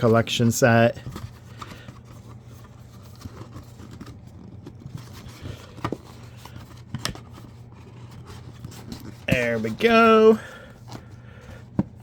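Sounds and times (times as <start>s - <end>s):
cardboard box being handled: 0.0s - 12.0s.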